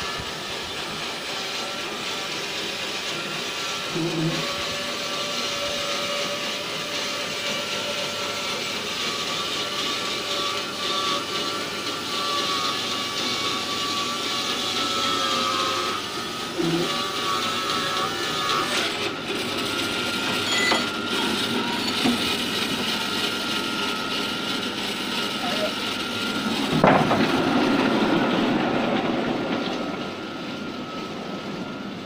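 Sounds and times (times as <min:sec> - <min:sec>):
band sawmill cutting log: 0:00.0 - 0:32.0.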